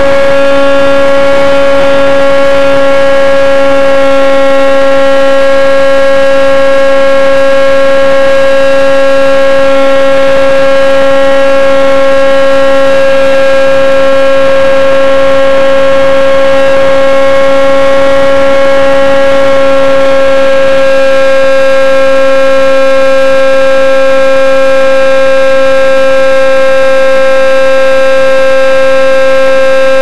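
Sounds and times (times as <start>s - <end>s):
model plane motor whine: 0.0s - 30.0s.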